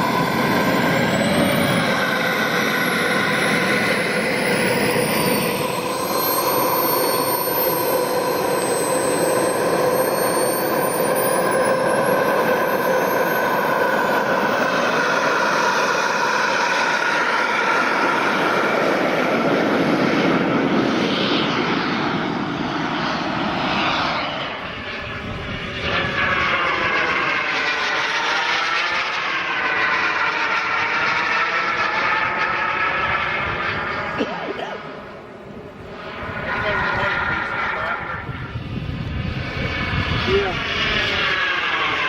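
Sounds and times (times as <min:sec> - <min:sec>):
jet engine roaring and whining: 0:00.0 - 0:42.0.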